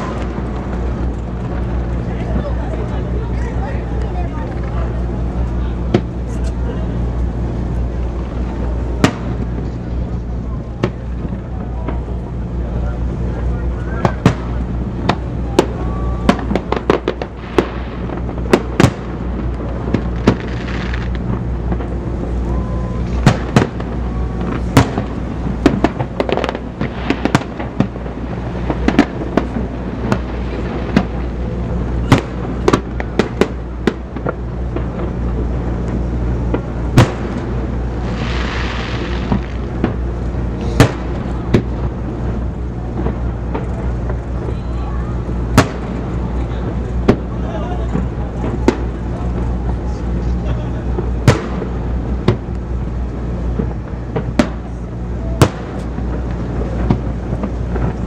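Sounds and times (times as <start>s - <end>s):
fireworks bursting with bangs: 0.0s - 58.0s
hissing crackle: 0.0s - 58.0s
steady low hum: 0.0s - 58.0s.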